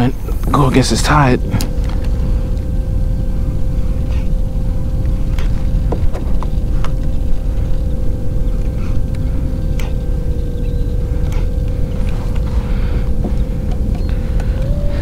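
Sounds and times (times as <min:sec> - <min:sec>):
electric motor whining: 0:00.0 - 0:15.0
heavy low rumble: 0:00.0 - 0:15.0.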